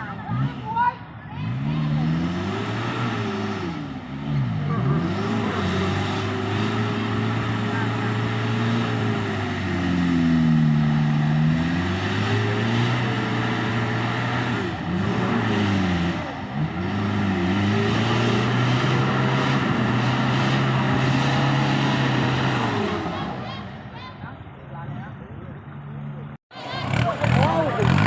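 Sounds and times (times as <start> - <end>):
off-road vehicle engine revving: 0.0 - 24.1, 24.7 - 28.0.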